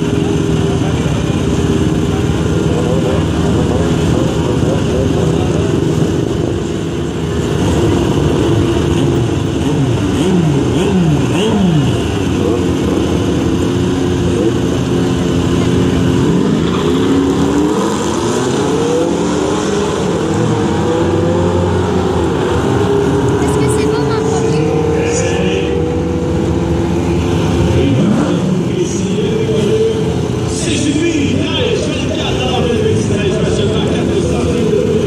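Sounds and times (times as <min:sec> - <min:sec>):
car engines revving: 0:00.0 - 0:35.0
cars accelerating hard: 0:00.0 - 0:35.0.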